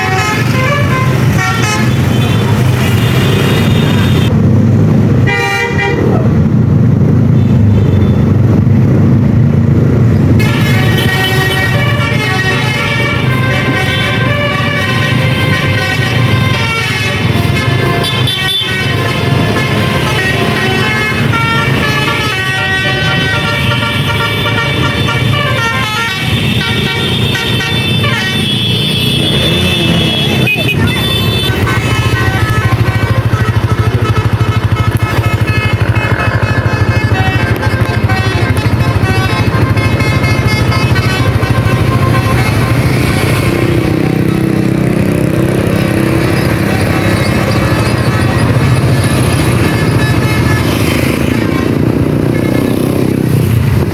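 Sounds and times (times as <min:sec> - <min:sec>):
musical air horns playing melody: 0:00.0 - 0:04.3, 0:05.2 - 0:06.3, 0:10.3 - 0:53.8
motorcycle engine running: 0:06.3 - 0:53.9.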